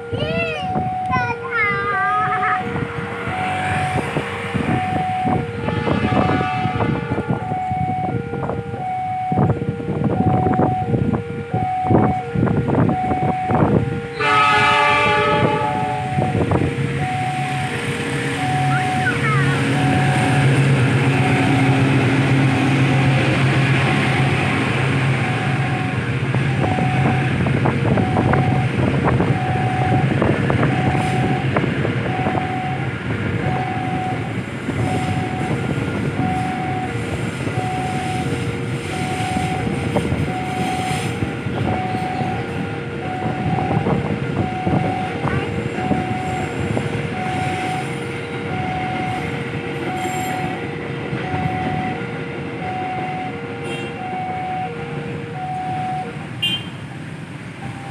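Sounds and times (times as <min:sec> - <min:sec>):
crossing warning alarm: 0:00.0 - 0:57.9
diesel locomotive engine drone: 0:00.0 - 0:57.9.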